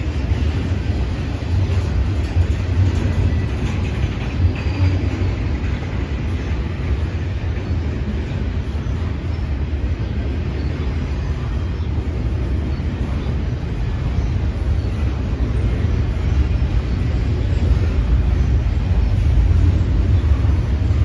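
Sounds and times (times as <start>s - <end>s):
freight train wheels on rail: 0.0s - 21.0s.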